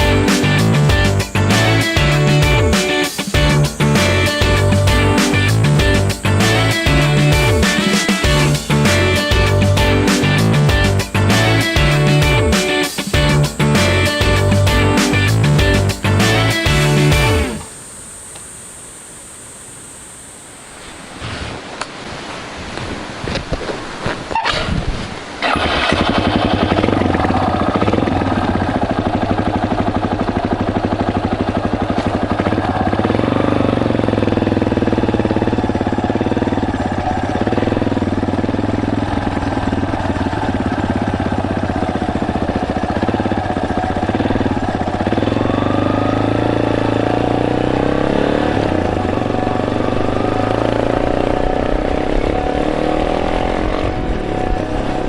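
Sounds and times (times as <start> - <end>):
motorcycle engine running: 0.0 - 20.8, 25.4 - 55.0.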